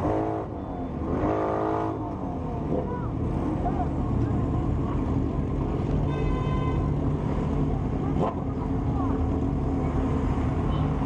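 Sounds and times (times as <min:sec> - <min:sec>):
motorcycle and car engines rumbling: 0:00.0 - 0:11.0.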